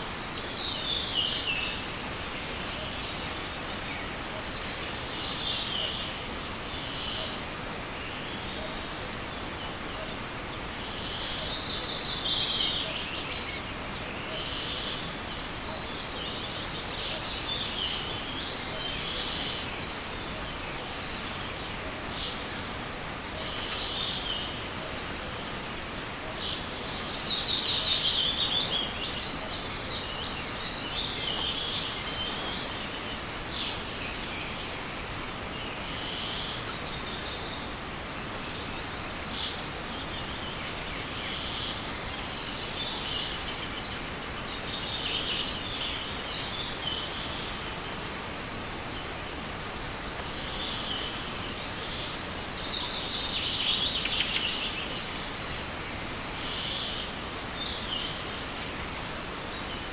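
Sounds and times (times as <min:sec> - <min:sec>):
forest stream rushing: 0:00.0 - 0:59.9
songbirds singing: 0:00.1 - 0:59.9.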